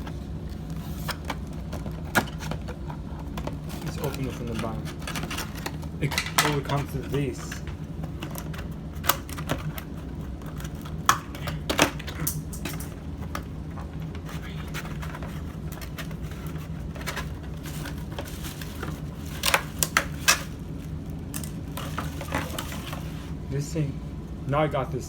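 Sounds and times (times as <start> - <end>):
steady low hum: 0.0 - 25.0
toy packaging clicks and rustles: 0.6 - 23.3.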